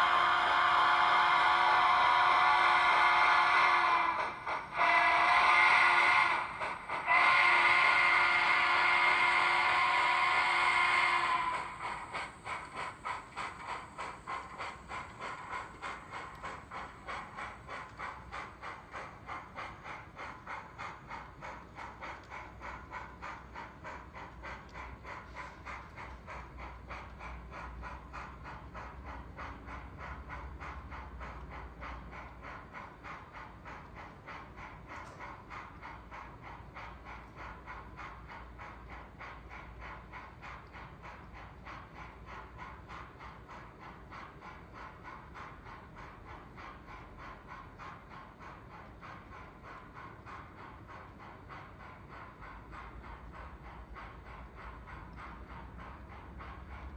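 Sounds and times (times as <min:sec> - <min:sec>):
model steam locomotive chuffing: 0:00.0 - 0:56.9.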